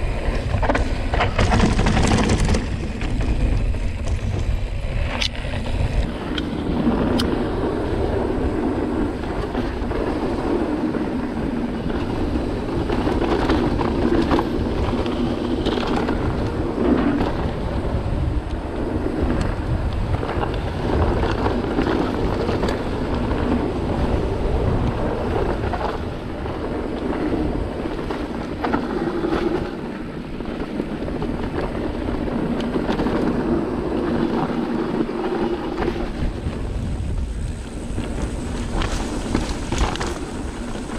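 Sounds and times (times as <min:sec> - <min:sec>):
bike rattling and knocking: 0:00.0 - 0:40.9
bike tyre noise on dirt: 0:00.0 - 0:40.9
wind rushing over microphone: 0:00.0 - 0:40.9.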